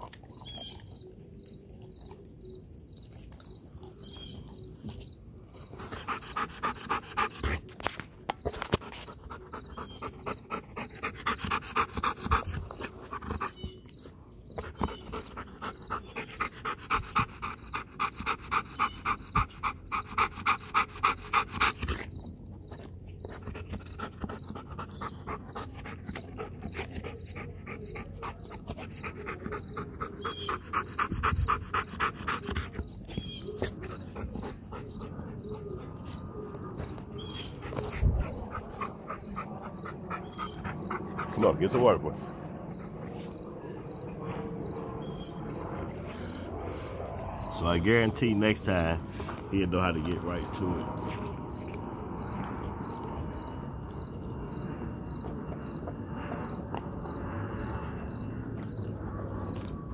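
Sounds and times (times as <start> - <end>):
dog panting hard: 3.9 - 59.8.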